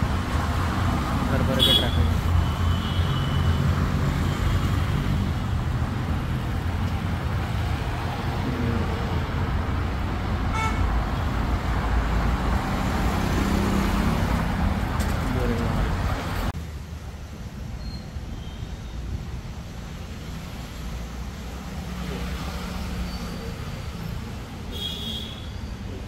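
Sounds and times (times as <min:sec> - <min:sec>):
passing cars and motorbikes: 0:00.0 - 0:26.0.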